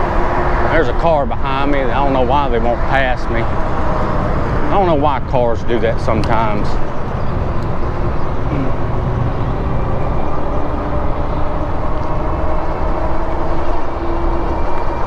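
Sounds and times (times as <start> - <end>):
road noise from bike: 0.0 - 15.0
wind on microphone: 0.0 - 15.0.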